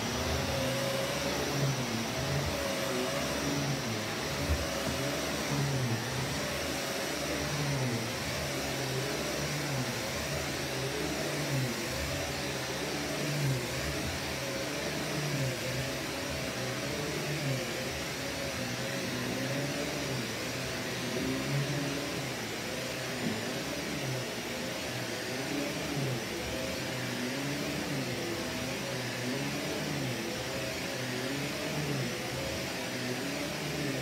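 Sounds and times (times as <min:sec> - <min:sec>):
vacuum cleaner running on carpet: 0:00.0 - 0:34.0.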